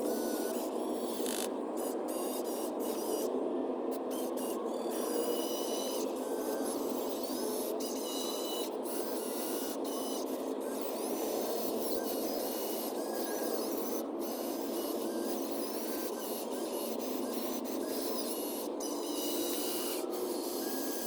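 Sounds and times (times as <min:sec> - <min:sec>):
noisy machine whir: 0:00.0 - 0:21.0.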